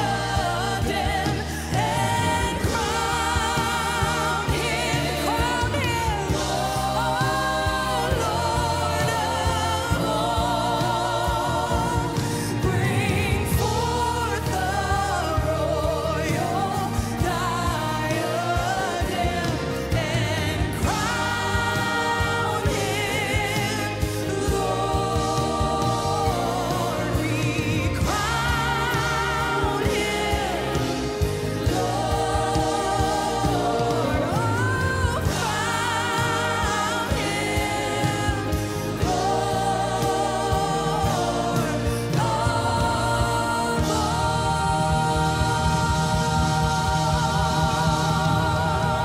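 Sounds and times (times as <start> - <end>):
backing singers: 0.0 - 49.0
band with bass and drums: 0.0 - 49.0
woman singing with vibrato: 0.0 - 49.0.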